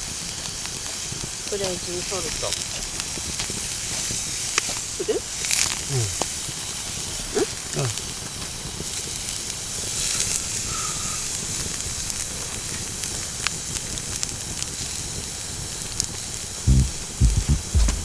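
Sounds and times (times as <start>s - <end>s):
campfire crackling and hissing: 0.0s - 17.2s.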